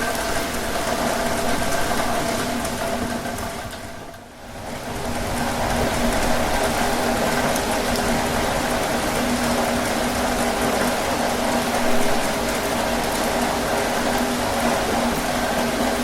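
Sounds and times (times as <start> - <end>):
heavy rain on a tin roof: 0.0 - 16.0.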